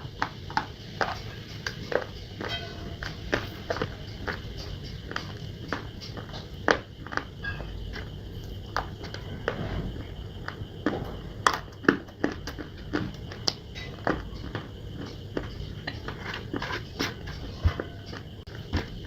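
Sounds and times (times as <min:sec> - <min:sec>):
crunching and chewing clay: 0:00.1 - 0:19.0.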